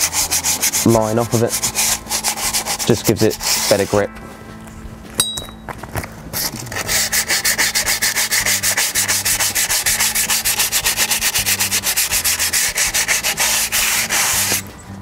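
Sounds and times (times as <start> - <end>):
emery cloth rasping on brake lining: 0.0 - 4.1, 6.3 - 14.7.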